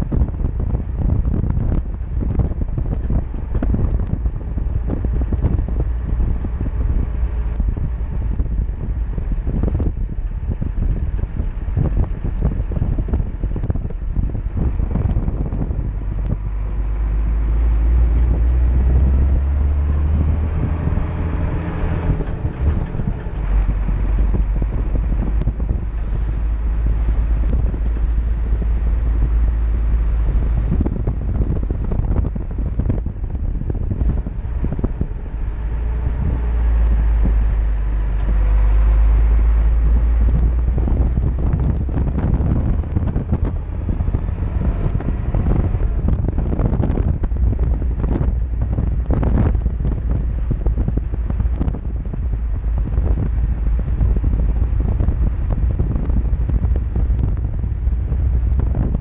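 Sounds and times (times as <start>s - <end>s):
car engine running: 0.0s - 59.0s
wind buffeting microphone: 0.0s - 59.0s.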